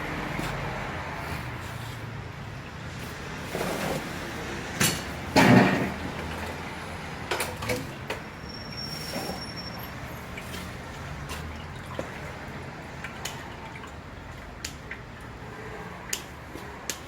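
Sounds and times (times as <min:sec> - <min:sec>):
oil pouring: 0:00.0 - 0:15.3.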